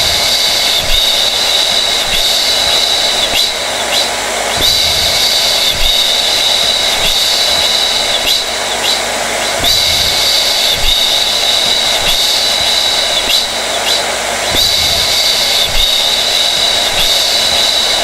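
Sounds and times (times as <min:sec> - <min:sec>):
hair dryer running: 0:00.0 - 0:18.0.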